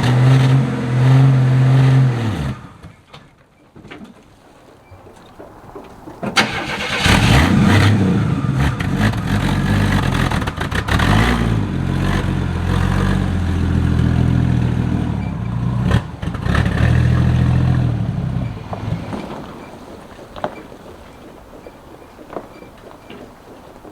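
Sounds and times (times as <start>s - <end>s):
engine cranking and running: 4.2s - 23.9s.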